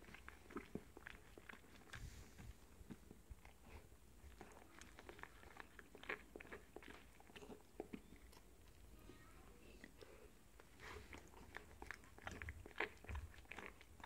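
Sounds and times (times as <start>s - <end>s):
dog licking with mouth clicks: 0.0s - 8.9s, 9.8s - 14.0s.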